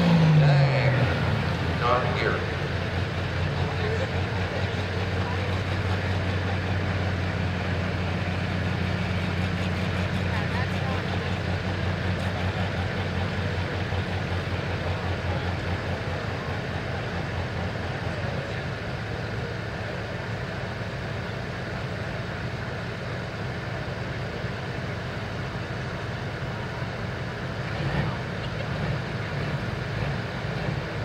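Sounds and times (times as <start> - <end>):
diesel tractor engine idling: 0.0 - 31.0.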